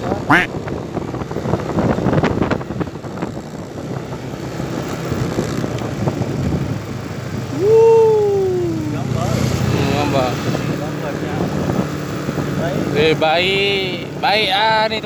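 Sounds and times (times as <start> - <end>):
scooter engine running: 0.0 - 15.0
wind rumbling on microphone: 0.0 - 15.0.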